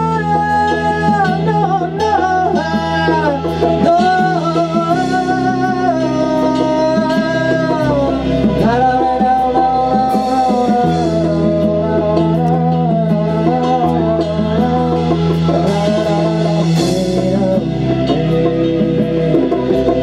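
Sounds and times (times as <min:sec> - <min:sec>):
man singing rock vocals: 0:00.0 - 0:20.0
rock band bass and chords: 0:00.0 - 0:20.0.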